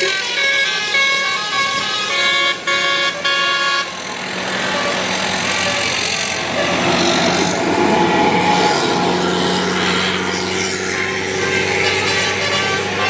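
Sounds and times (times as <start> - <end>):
bus engine: 0.0 - 13.0
multi-tone bus horn tune: 0.0 - 13.0
road noise: 0.0 - 13.0.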